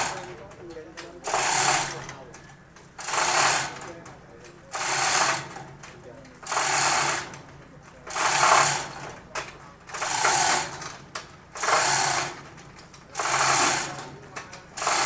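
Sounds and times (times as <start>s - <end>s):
rice milling machine clatter: 0.0s - 0.6s, 1.2s - 2.3s, 3.0s - 15.0s.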